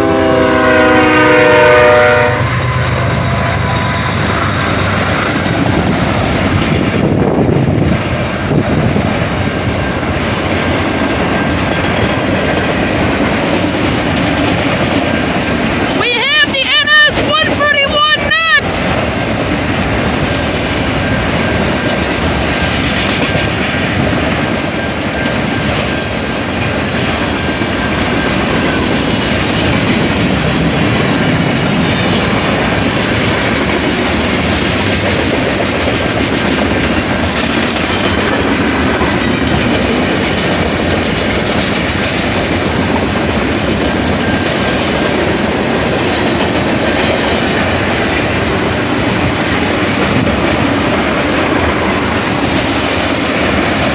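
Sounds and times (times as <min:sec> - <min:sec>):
train wheels clattering over rails: 0:00.0 - 0:16.0, 0:18.8 - 0:53.9.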